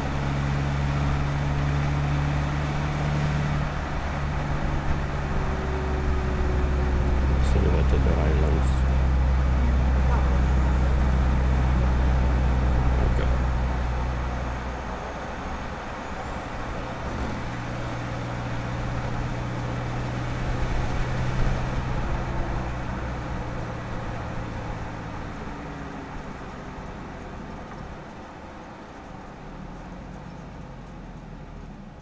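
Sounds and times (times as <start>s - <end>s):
diesel engine running: 0.0s - 32.0s
tyre and road noise: 0.0s - 32.0s.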